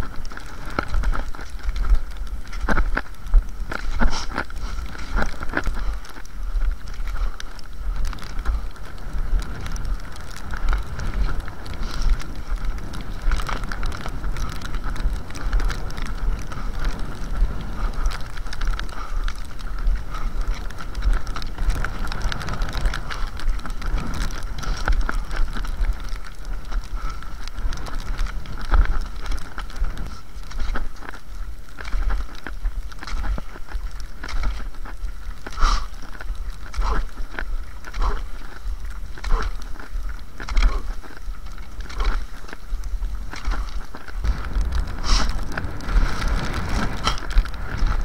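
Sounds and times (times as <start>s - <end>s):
ski poles clicking in snow: 0.0s - 48.0s
skis sliding in snow tracks: 0.0s - 48.0s
wind rumble on microphone: 0.0s - 48.0s.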